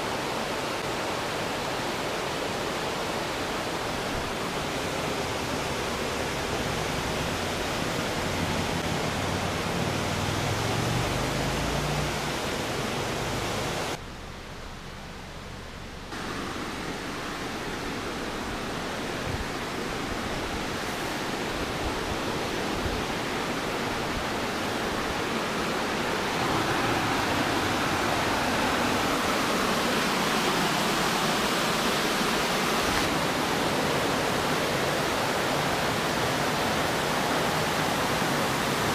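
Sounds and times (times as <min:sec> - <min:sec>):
stream rushing over rocks: 0:00.0 - 0:14.1, 0:15.8 - 0:38.9.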